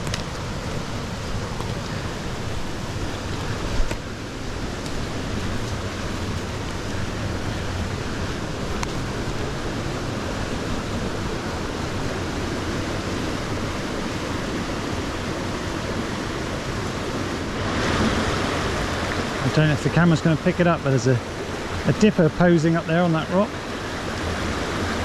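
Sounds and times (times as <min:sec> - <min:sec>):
stream water tumbling over rocks: 0:00.0 - 0:25.0.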